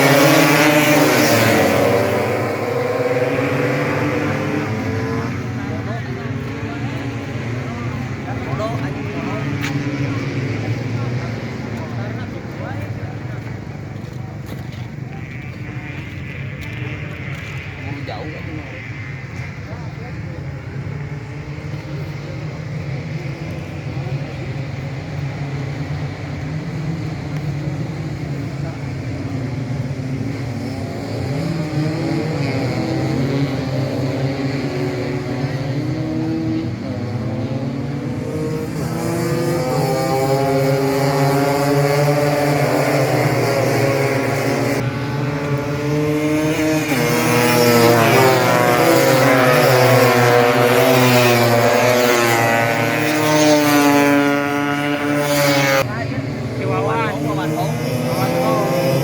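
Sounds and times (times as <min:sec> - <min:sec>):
scooter engines droning: 0:00.0 - 0:59.0.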